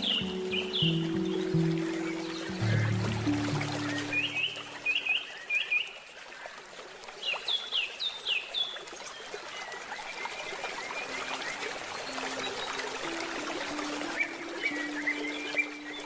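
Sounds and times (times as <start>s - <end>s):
river water babbling: 0.0s - 16.0s
songbirds chirping: 0.0s - 16.0s.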